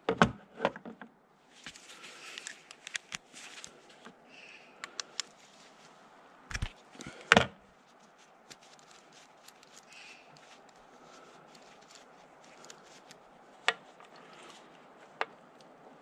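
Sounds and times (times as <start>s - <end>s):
gloves rustling: 1.4s - 16.0s.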